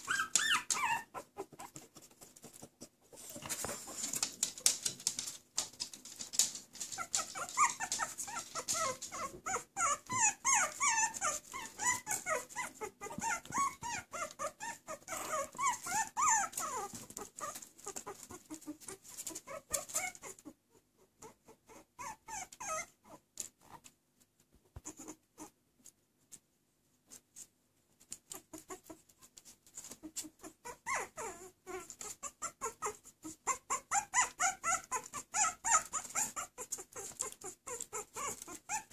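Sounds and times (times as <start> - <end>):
puppies squeaking and whimpering: 0.0 - 5.3, 6.1 - 20.6, 21.2 - 23.8, 29.8 - 38.9
puppies crawling scratchy clicks: 0.0 - 20.5, 22.0 - 26.5, 27.1 - 38.9.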